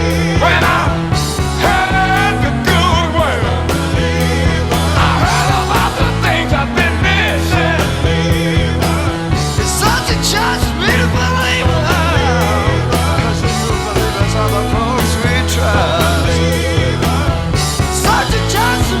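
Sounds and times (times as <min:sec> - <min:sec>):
sustained bass notes: 0:00.0 - 0:19.0.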